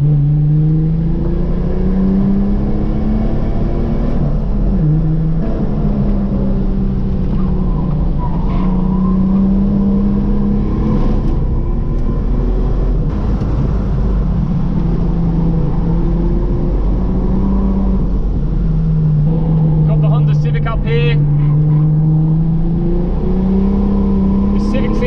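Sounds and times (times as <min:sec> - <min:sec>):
car engine pulling hard: 0:00.0 - 0:25.0
road and wind noise: 0:00.0 - 0:25.0.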